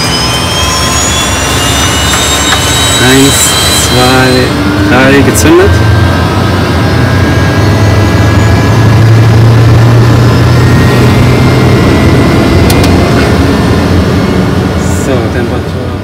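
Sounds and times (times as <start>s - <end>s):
turbine whine: 0.0s - 16.0s
turboprop engine low hum: 0.0s - 16.0s.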